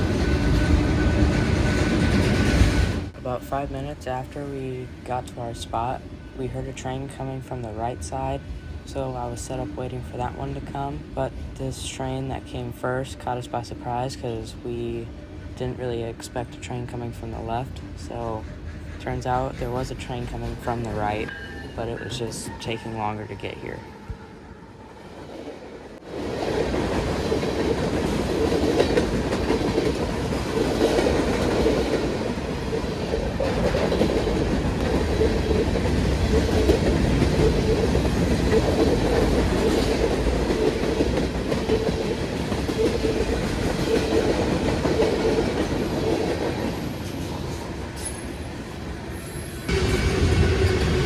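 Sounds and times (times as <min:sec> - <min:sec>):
train wheels rumbling on rails: 0:00.0 - 0:24.0, 0:25.0 - 0:51.0.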